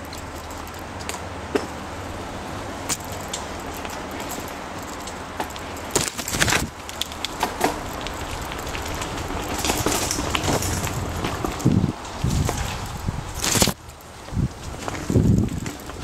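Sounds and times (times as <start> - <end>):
bike rattling and knocking: 0.0 - 16.0
tyres crackling over dry leaves: 0.0 - 16.0
wind rumbling on microphone: 0.0 - 16.0.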